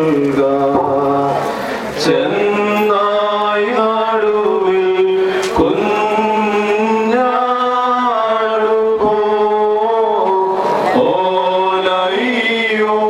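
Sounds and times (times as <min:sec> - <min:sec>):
men singing liturgical chant: 0:00.0 - 0:13.0.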